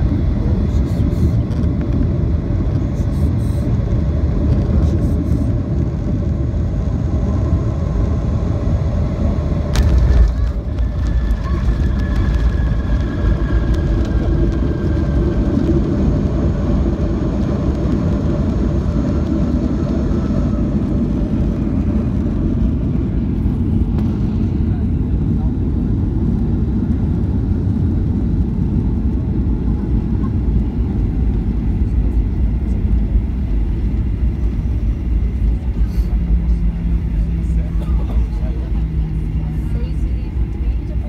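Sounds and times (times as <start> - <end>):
airliner rolling on runway: 0.0 - 41.0
jet engine and airflow rumble: 0.0 - 41.0.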